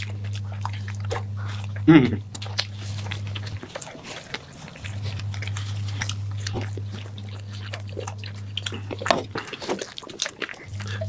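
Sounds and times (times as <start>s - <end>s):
chewing and mouth sounds: 0.0s - 11.0s
low hum: 0.0s - 11.0s.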